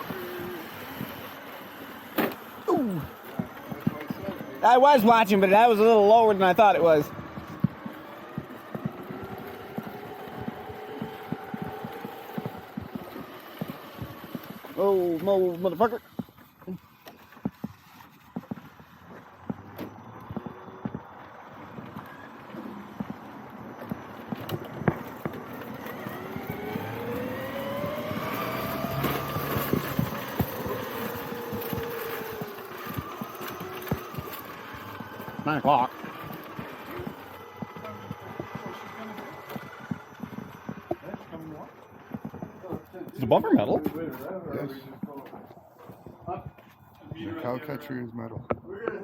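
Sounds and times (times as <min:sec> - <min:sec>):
electric motor whine: 0:00.0 - 0:46.4
scattered clicks and knocks: 0:02.1 - 0:44.0.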